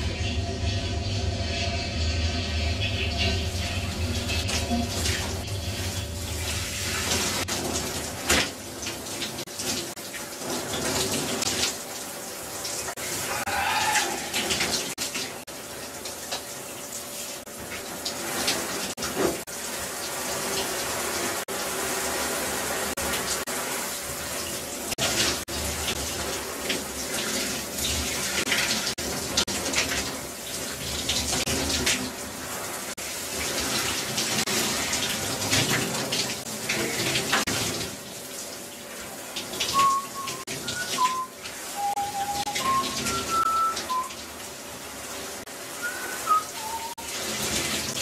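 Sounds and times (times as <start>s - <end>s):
water spraying and splashing: 2.6s - 48.0s.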